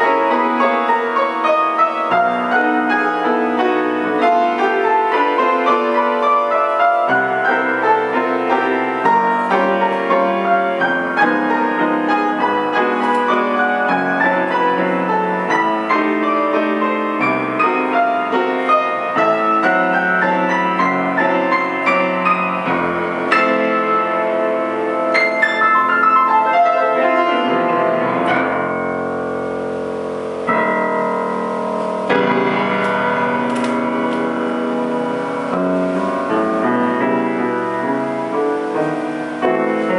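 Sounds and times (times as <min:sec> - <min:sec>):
solo grand piano: 0:00.0 - 0:39.9.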